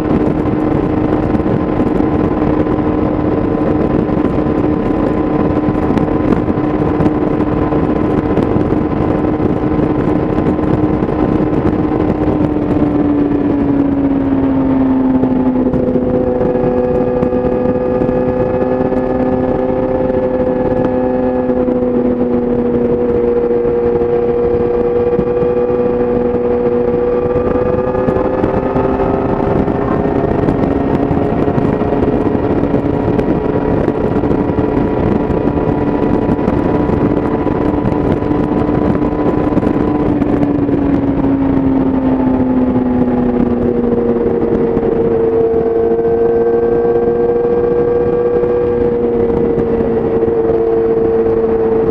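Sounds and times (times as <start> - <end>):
motorcycle engine while riding: 0.0 - 51.9
wind rush: 0.0 - 51.9.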